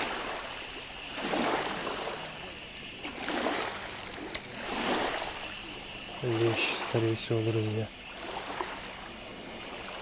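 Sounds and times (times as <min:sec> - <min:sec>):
small waves lapping on shore: 0:00.0 - 0:10.0.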